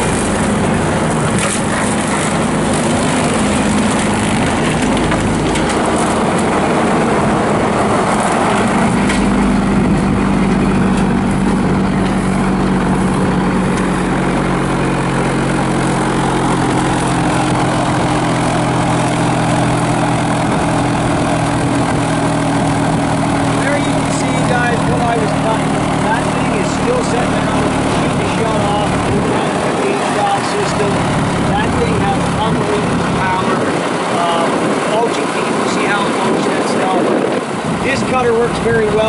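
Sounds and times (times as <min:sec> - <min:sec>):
skid steer engine running: 0:00.0 - 0:39.0.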